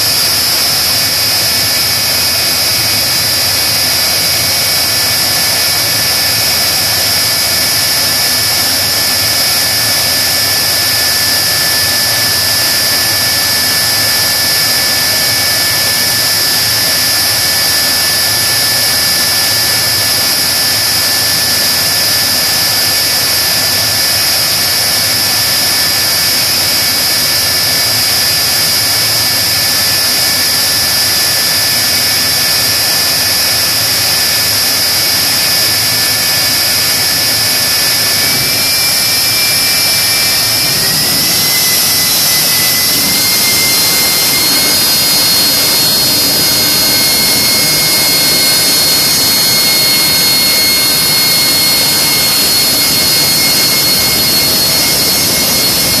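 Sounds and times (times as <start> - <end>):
high steady turbine whine: 0.0 - 56.0
jet engine roaring rush: 0.0 - 56.0.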